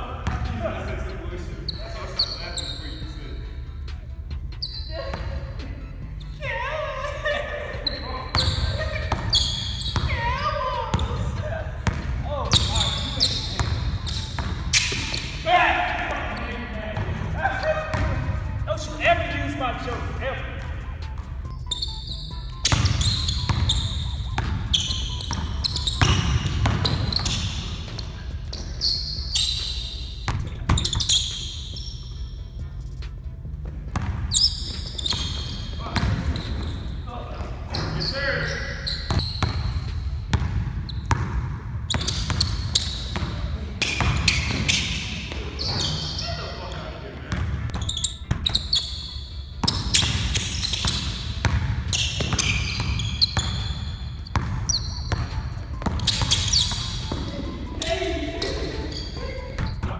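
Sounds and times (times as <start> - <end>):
sneakers squeaking: 0.2 - 59.9.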